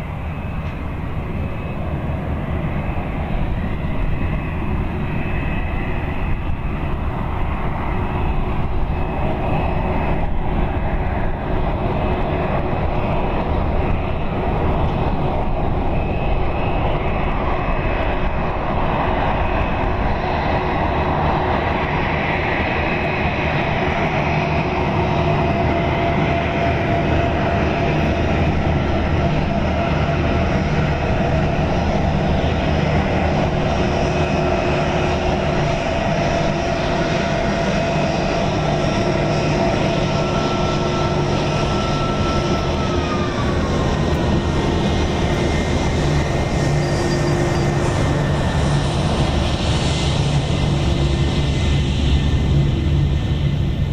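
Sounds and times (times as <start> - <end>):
jet engine rumble with whine: 0.0 - 53.9.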